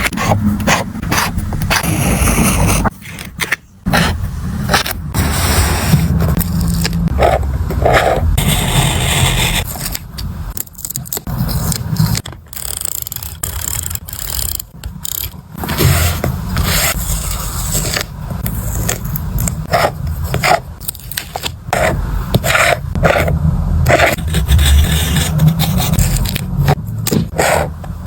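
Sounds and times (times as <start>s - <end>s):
paper and stickers scraping: 0.0s - 23.3s, 23.9s - 28.0s.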